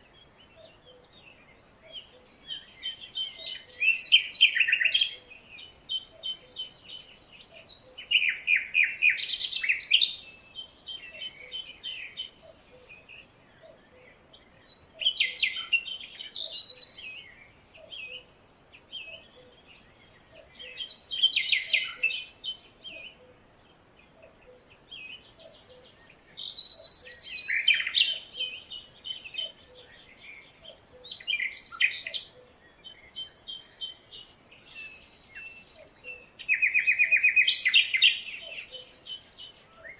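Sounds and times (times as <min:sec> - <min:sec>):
soft bird calls: 0:00.0 - 0:39.9
songbirds chirping: 0:00.0 - 0:39.9.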